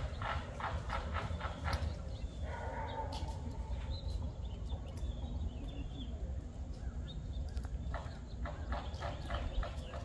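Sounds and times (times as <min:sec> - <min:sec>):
low outdoor rumble: 0:00.0 - 0:10.0
faint bird chirps: 0:01.2 - 0:10.0.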